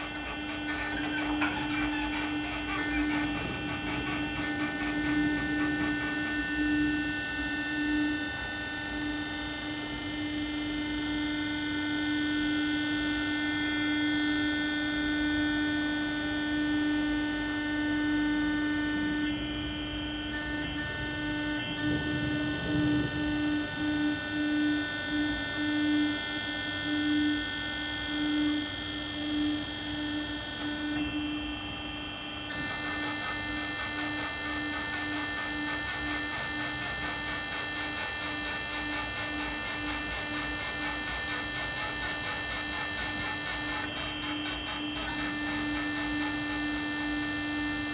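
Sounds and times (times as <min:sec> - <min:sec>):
hydraulic power unit hum: 0:00.0 - 0:47.9
thin high whine: 0:00.0 - 0:47.9.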